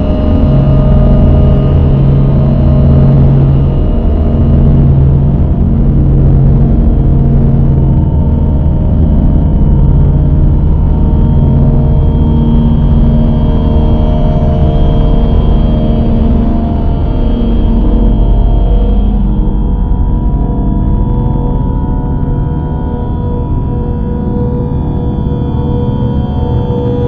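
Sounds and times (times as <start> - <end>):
dark ambient drone music: 0.0 - 27.0.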